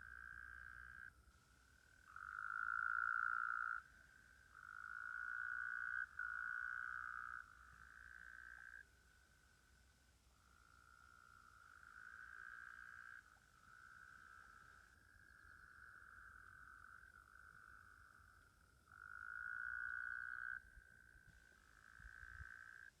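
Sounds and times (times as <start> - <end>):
frog-like trilling chorus: 0.0 - 1.2, 1.9 - 9.0, 10.4 - 23.0.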